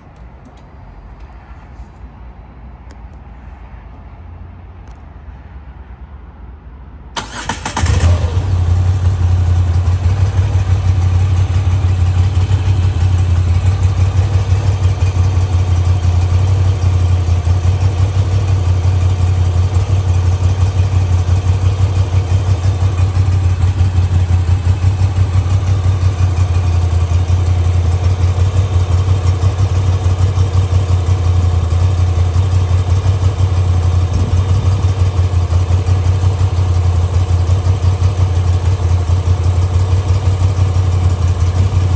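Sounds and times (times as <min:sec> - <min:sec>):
motorcycle engine idling: 0:07.3 - 0:41.9.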